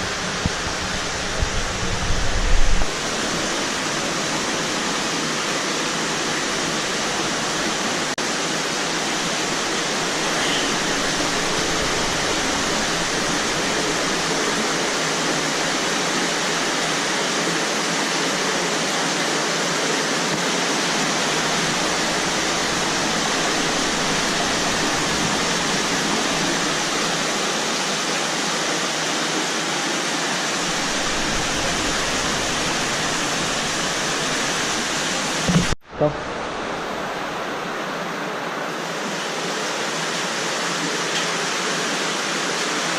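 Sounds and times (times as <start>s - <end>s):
underground river rushing over rock: 0.0s - 42.9s.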